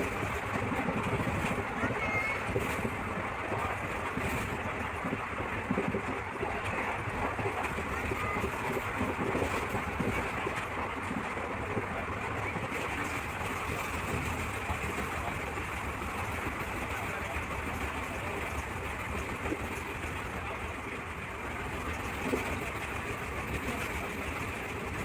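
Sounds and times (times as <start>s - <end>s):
moving train rumble: 0.0s - 25.0s.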